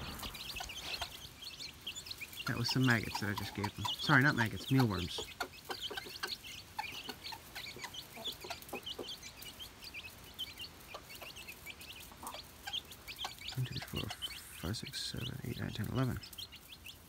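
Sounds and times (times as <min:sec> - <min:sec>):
chicks peeping: 0:00.0 - 0:17.0
hen clucking: 0:00.0 - 0:17.0.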